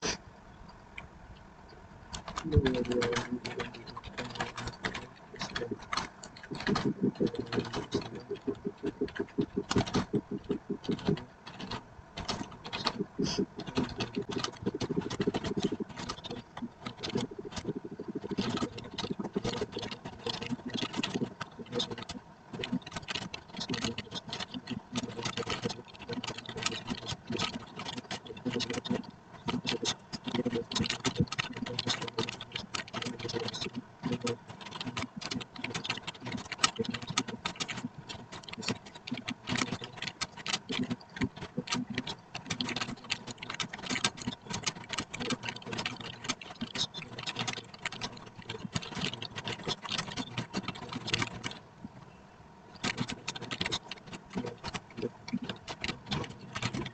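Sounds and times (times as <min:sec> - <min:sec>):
computer keyboard typing: 0:02.1 - 0:51.6, 0:52.8 - 0:56.9.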